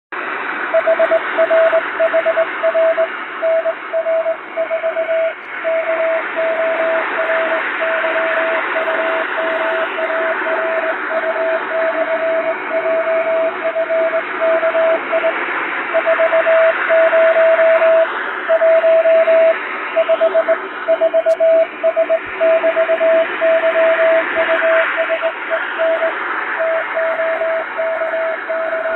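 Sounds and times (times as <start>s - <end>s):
shortwave radio hiss: 0.2s - 28.9s
morse code tone: 0.7s - 28.9s.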